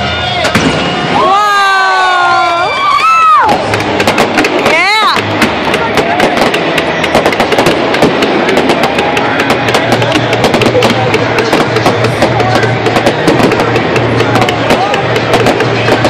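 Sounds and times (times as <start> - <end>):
fireworks crackling: 0.0 - 16.0
music playing: 0.0 - 16.0.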